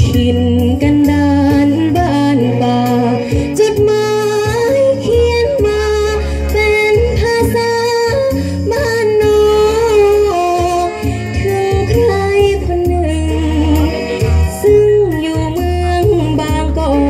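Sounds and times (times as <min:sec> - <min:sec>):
folk pop music over loudspeakers: 0:00.0 - 0:17.0.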